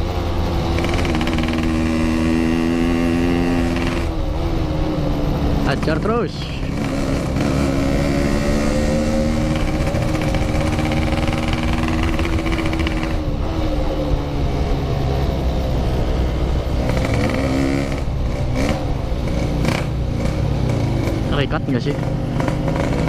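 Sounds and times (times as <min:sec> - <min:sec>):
motorcycle engine under throttle: 0:00.0 - 0:04.2, 0:05.6 - 0:23.0.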